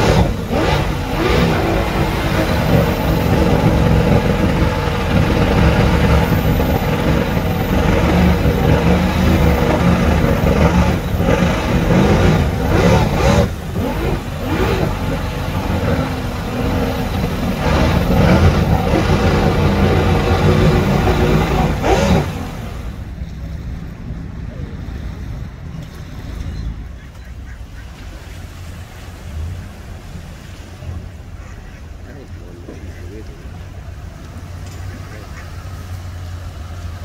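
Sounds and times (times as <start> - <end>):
outboard motor running hard: 0.0 - 37.0
propeller churning water: 0.0 - 37.0.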